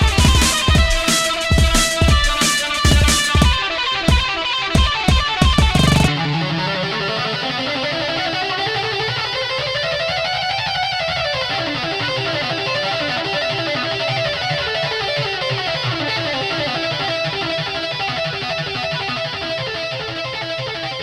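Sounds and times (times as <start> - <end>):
guitar music with steady beat: 0.0 - 21.0.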